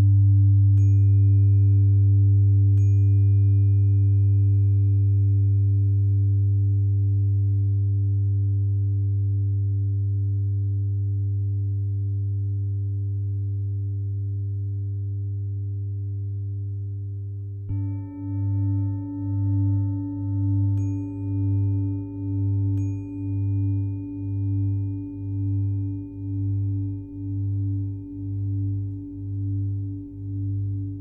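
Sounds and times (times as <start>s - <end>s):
tuning fork ringing: 0.0s - 12.8s, 17.7s - 31.0s.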